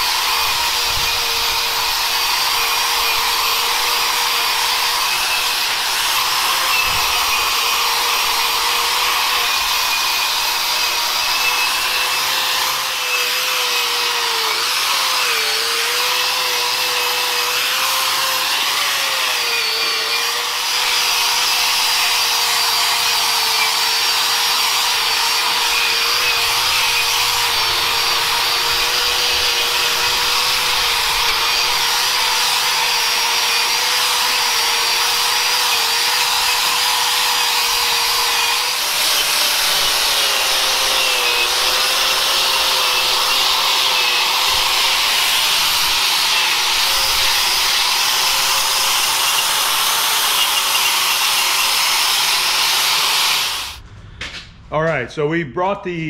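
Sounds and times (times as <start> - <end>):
wire wheel grinder scouring metal: 0.0 - 53.8.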